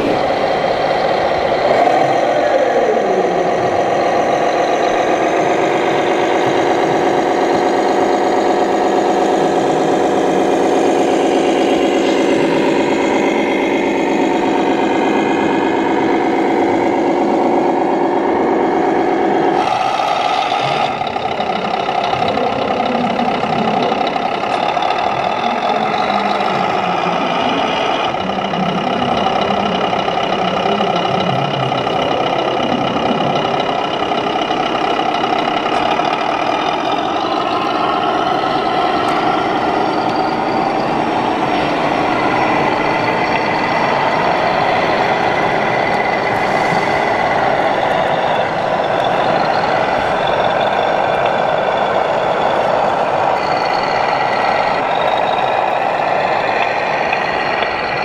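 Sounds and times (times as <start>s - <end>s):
simulated diesel engine from speaker: 0.0s - 58.0s.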